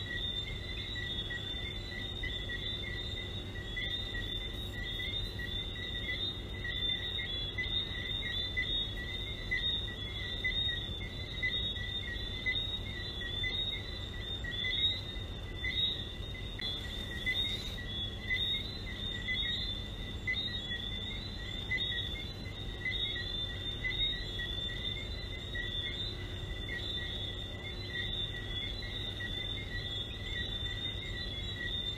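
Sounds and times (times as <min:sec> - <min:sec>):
frogs chirping chorus: 0:00.0 - 0:31.9.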